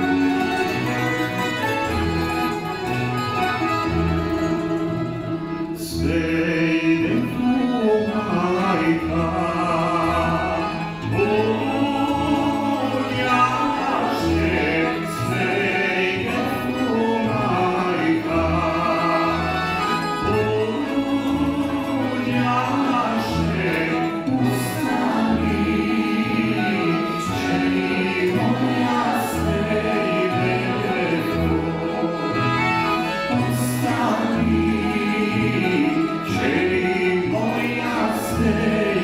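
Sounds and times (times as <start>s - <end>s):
accordions: 0.0s - 39.0s
string band playing: 0.0s - 39.0s
man singing: 5.8s - 39.0s.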